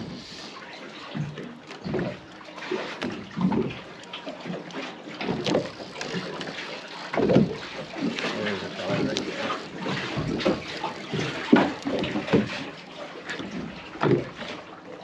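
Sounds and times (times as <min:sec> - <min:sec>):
water sloshing against boat hull: 0:00.0 - 0:15.0.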